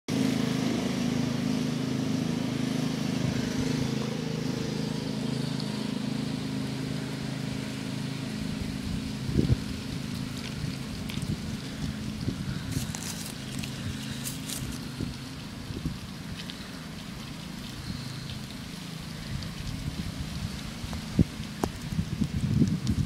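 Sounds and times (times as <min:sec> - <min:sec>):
engine humming: 0:00.1 - 0:23.0.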